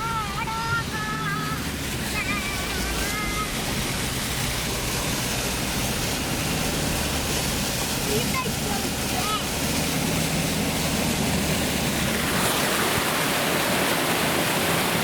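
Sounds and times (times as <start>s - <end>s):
floodwater rushing and splashing: 0.0s - 15.0s
low engine rumble: 0.0s - 15.0s.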